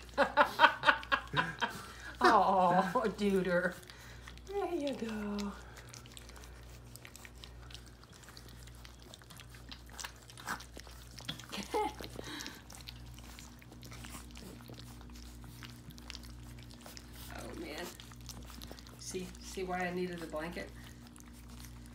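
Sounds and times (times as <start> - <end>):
puppies lapping and chewing: 0.0 - 21.9.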